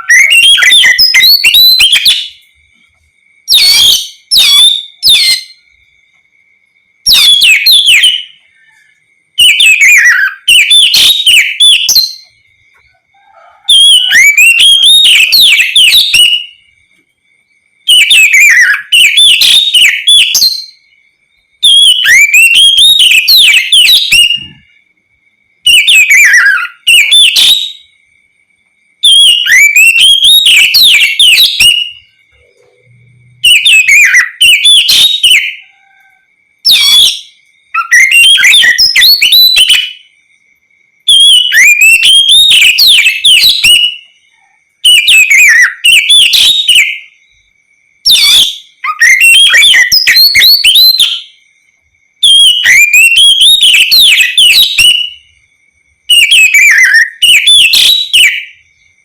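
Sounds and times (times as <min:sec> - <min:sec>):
bird singing whistled song: 0:00.0 - 0:24.9, 0:25.6 - 0:28.2, 0:28.9 - 0:40.4, 0:41.0 - 0:51.5, 0:52.2 - 0:55.4, 0:56.1 - 0:59.0.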